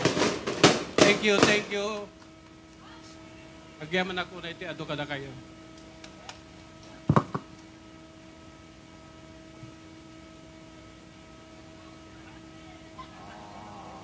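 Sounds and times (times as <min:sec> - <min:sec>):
electrical hum from sound system: 0:00.0 - 0:14.0.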